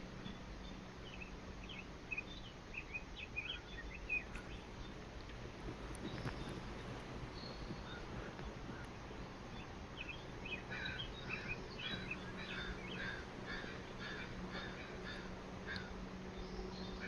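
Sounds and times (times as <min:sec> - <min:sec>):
bird chirping: 0:00.0 - 0:05.1, 0:05.9 - 0:17.0
faint low hum: 0:00.0 - 0:17.0
outdoor background noise: 0:00.0 - 0:17.0.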